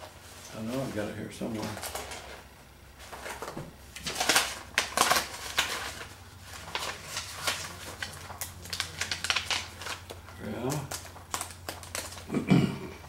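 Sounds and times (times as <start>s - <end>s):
papers rustling and crinkling: 0.0s - 12.3s.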